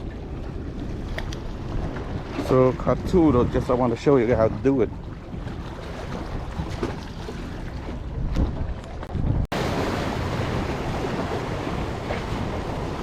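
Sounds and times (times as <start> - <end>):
water lapping at shore: 0.0 - 13.0
wind buffeting microphone: 0.0 - 13.0.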